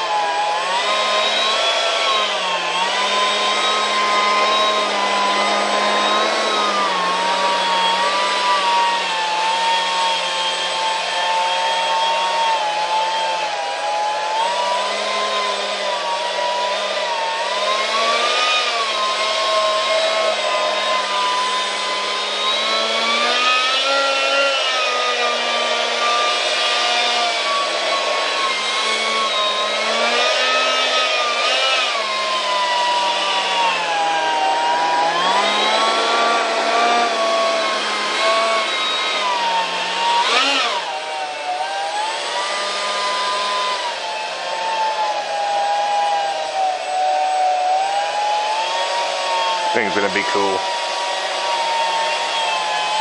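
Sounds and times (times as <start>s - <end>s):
electric ducted fan whining: 0.0s - 53.0s.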